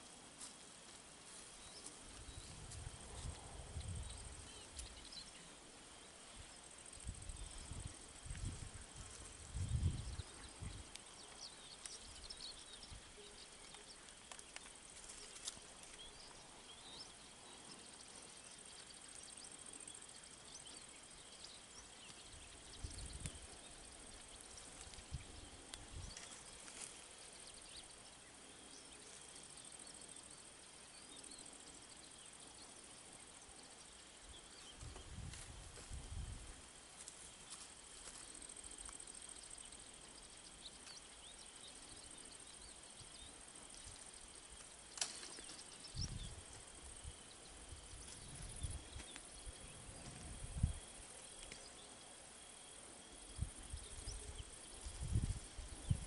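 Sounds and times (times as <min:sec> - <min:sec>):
insect trill: 0:00.0 - 0:56.0.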